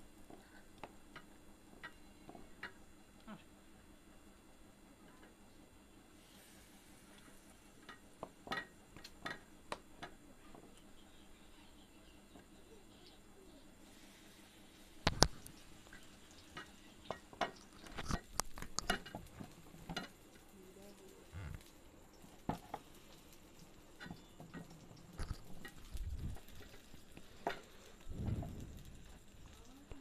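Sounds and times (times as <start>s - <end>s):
frying sizzle with pops: 0.0s - 30.0s.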